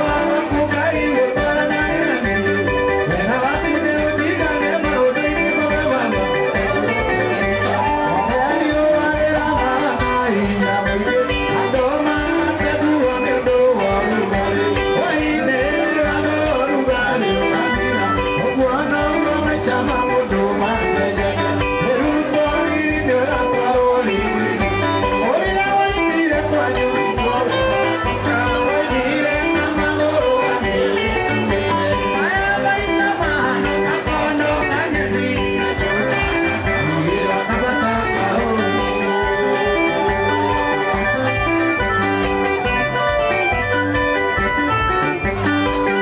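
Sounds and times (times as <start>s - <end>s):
bass: 0.0s - 46.0s
electric guitar: 0.0s - 46.0s
keyboard: 0.0s - 46.0s
man singing into a microphone: 0.0s - 46.0s.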